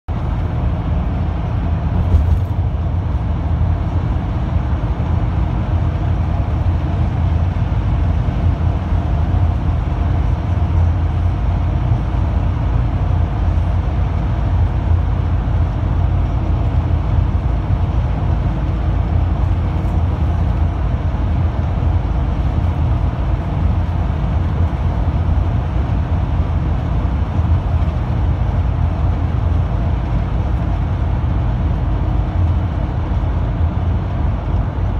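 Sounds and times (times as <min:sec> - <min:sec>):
engine and tyre rumble: 0:00.1 - 0:34.9.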